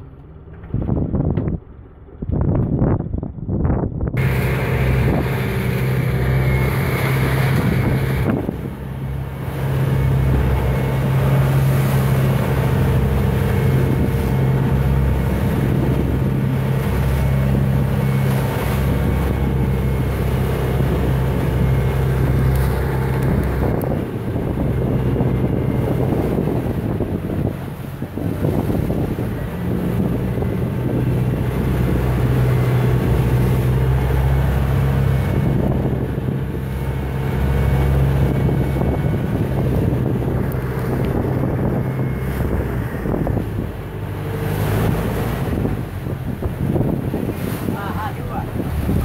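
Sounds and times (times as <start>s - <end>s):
boat motor running: 0.0s - 49.0s
wind on microphone: 0.0s - 49.0s.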